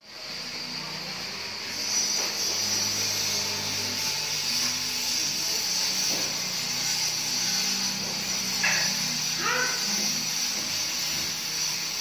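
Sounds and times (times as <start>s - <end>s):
blind chain whirring rattle: 0.3s - 12.0s.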